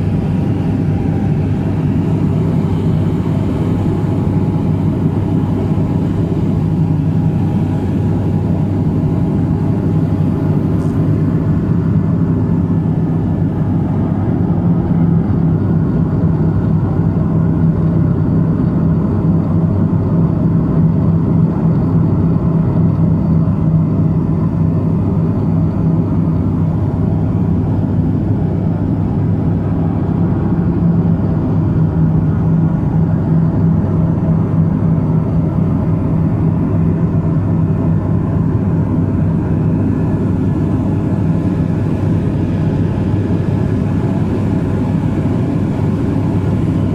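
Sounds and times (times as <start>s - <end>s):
turboprop engines droning: 0.0s - 46.9s.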